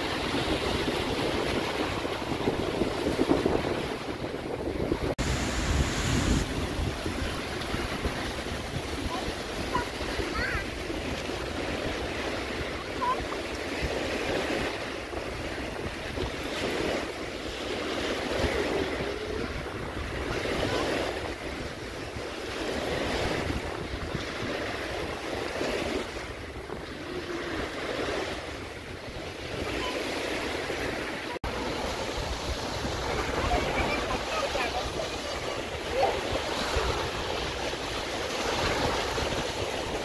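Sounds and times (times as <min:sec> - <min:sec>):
small waves breaking on sand: 0:00.0 - 0:40.0
wind rumbling on microphone: 0:00.0 - 0:40.0.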